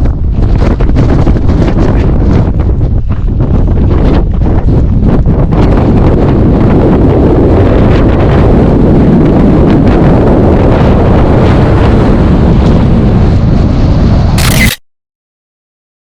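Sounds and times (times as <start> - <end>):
strong wind on microphone: 0.0 - 14.8.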